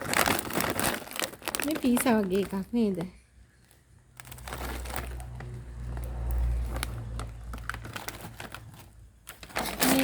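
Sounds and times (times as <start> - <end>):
plastic packets crackling: 0.0 - 10.0.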